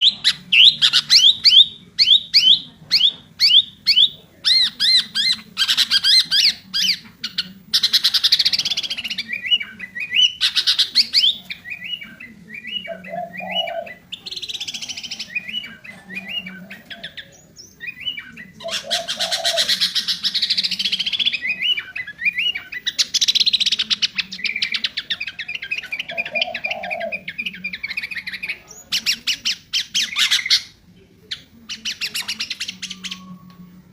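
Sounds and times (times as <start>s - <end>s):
bulbul singing: 0.0s - 33.9s.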